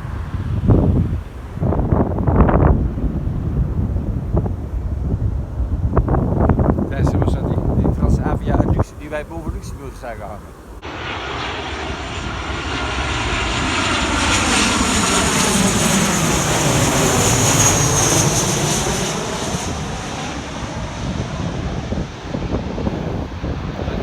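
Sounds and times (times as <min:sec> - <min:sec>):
aircraft passing overhead: 0:00.0 - 0:24.0.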